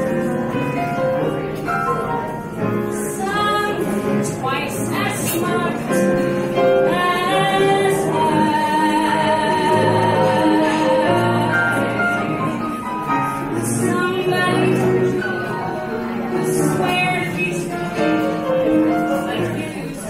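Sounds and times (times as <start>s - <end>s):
keyboard accompaniment: 0.0s - 20.0s
woman singing: 2.9s - 15.6s, 16.4s - 20.0s.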